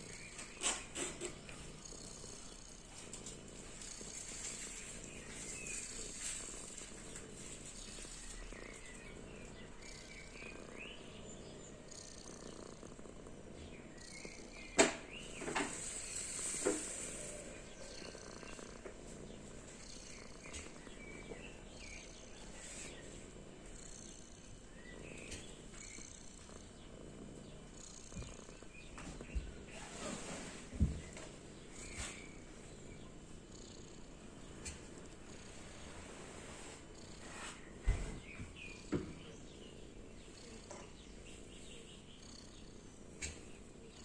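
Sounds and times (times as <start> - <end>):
kitten purring: 0.0 - 44.0.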